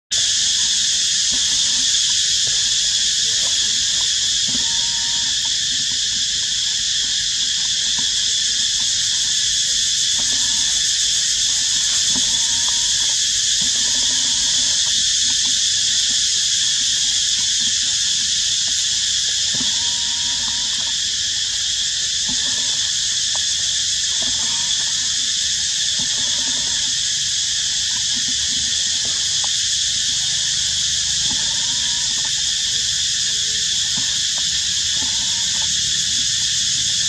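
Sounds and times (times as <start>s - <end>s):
high-pitched insect chorus: 0.1s - 37.0s.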